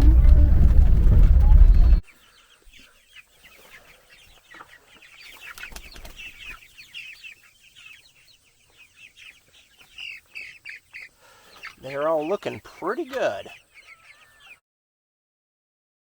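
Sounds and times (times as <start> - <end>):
chicks peeping: 0.0 - 14.6.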